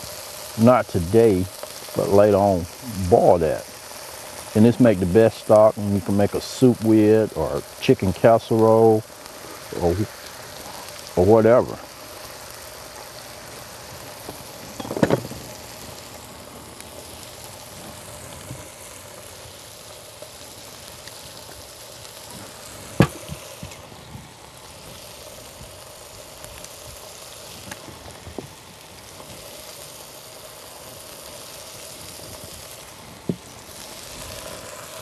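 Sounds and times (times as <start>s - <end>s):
chicken sizzling on griddle: 0.0s - 35.0s.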